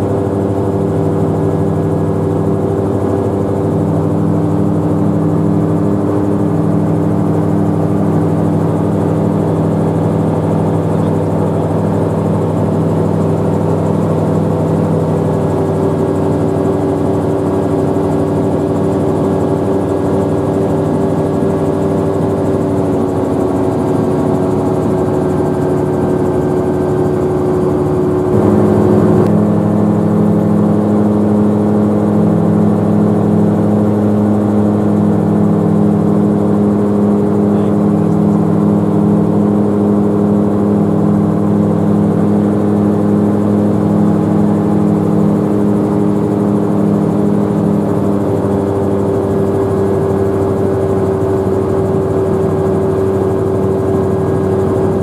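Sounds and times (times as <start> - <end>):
gyrocopter engine drone in cabin: 0.0 - 55.0.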